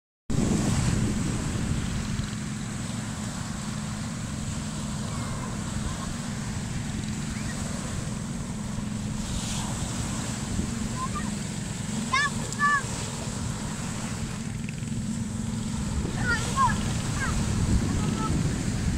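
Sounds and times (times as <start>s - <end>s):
ocean surf washing: 0.3s - 18.9s
wind buffeting microphone: 0.3s - 18.9s.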